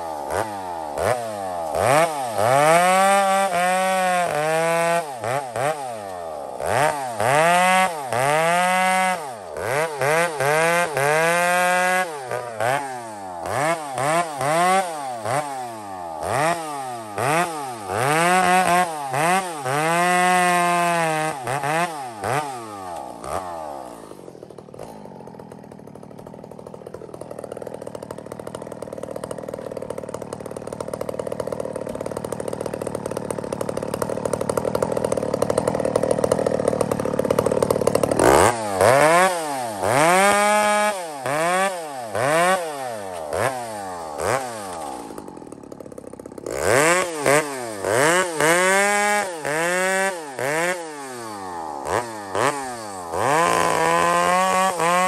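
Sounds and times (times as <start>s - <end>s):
chainsaw cutting logs: 0.0s - 55.0s
chainsaw idling: 0.0s - 55.0s.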